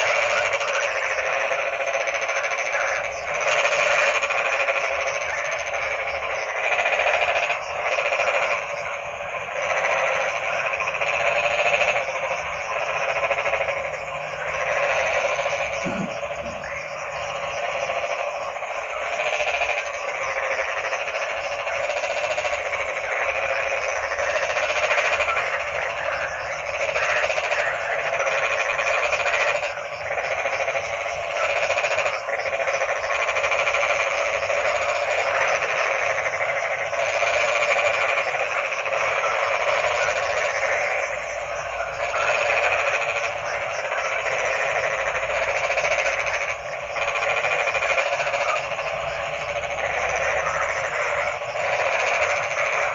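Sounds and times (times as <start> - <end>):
chorus of frogs croaking: 0.0 - 52.9.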